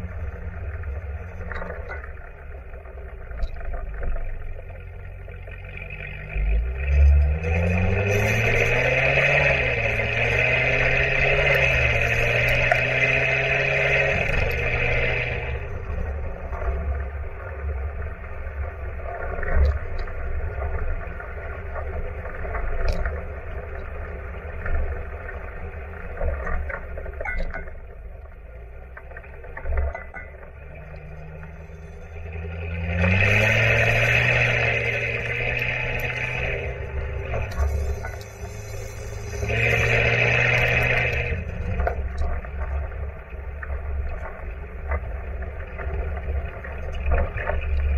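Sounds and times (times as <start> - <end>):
car exhaust roaring: 0.0 - 47.9
wind and road noise: 0.0 - 47.9.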